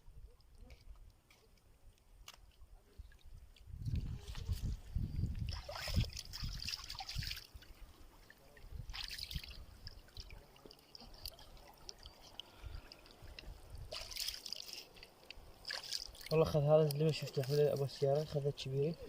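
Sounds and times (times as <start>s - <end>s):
water trickling and splashing: 0.2s - 19.0s.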